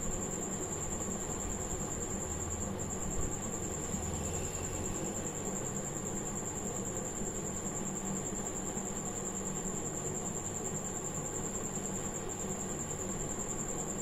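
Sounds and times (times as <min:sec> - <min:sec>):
background hum and hiss: 0:00.0 - 0:14.0
faint high whine: 0:00.0 - 0:14.0.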